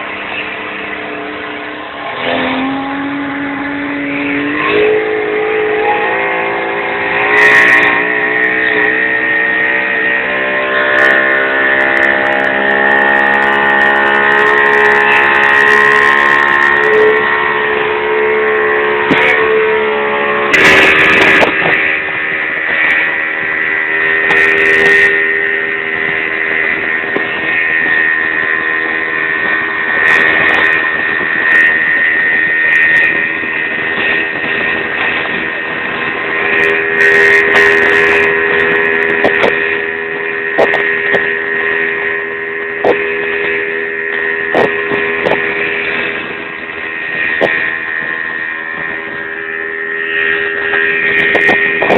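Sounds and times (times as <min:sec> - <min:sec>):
speedboat engine running: 0:00.0 - 0:51.9.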